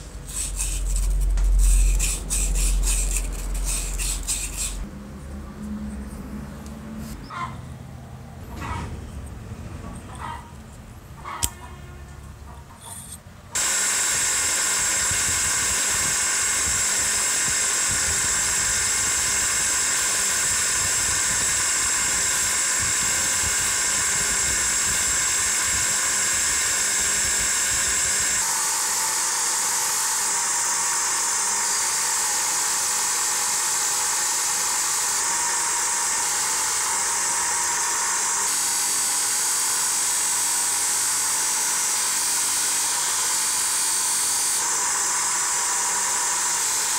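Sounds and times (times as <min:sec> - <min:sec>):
bench grinder whining: 0:00.0 - 0:04.9, 0:12.8 - 0:46.9.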